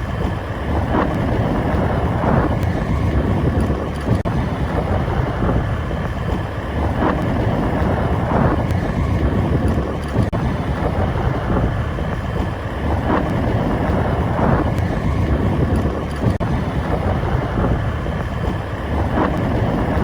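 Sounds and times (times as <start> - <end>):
steady rushing noise: 0.0 - 20.0
wind rumbling on microphone: 0.0 - 20.0.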